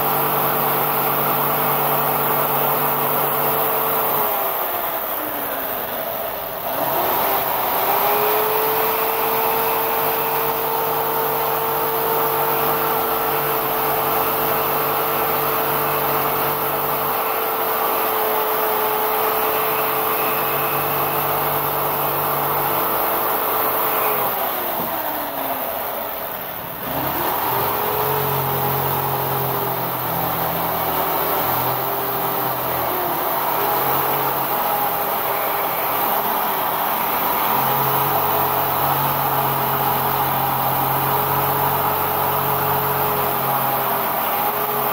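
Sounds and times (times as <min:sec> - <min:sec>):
jigsaw cutting foam board: 0:00.0 - 0:44.9.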